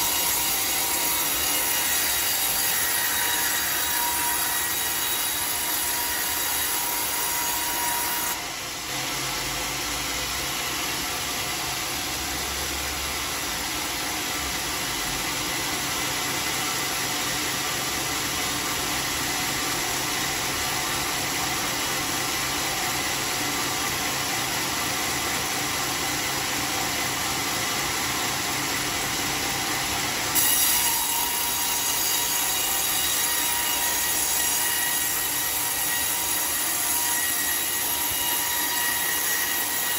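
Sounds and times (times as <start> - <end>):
band sawmill sawing a log: 0.0 - 8.4, 15.3 - 39.9.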